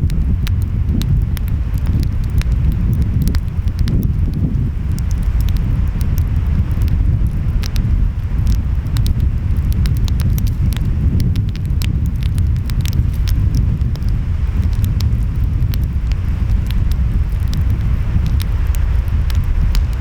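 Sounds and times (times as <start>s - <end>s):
wind: 0.0s - 20.0s
wood fire crackling and popping: 0.0s - 20.0s.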